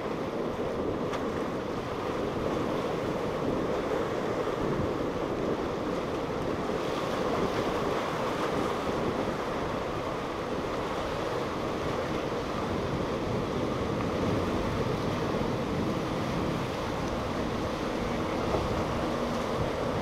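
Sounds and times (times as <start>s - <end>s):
motorboat running: 0.0s - 20.0s
waves washing against rocks: 0.0s - 20.0s
wind buffeting microphone: 0.0s - 20.0s.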